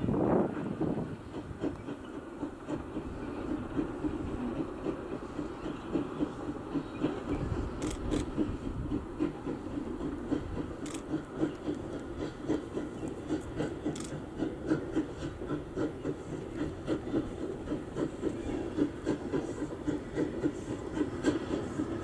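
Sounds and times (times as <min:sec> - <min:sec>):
steam locomotive chuffing: 0:00.0 - 0:22.0.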